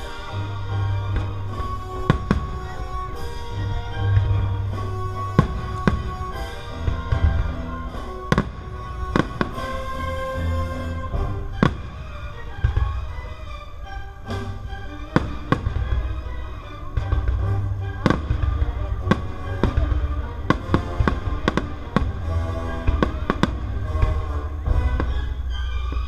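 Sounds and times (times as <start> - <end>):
fireworks bangs: 0.0 - 13.5, 14.4 - 26.0
orchestral music: 0.0 - 26.0.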